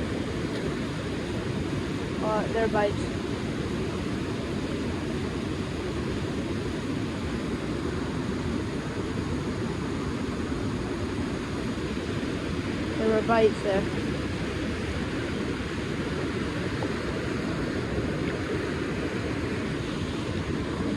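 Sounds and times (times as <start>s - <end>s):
fast-flowing river rushing: 0.0s - 20.9s.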